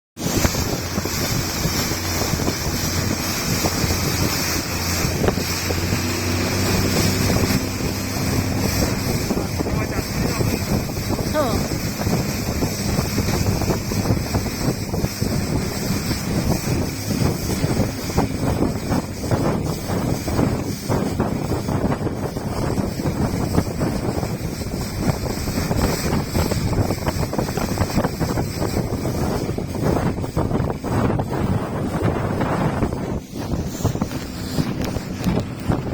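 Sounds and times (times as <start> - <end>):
boat engine running: 0.2 - 35.9
water rushing past hull: 0.2 - 35.9
wind buffeting microphone: 0.2 - 35.9.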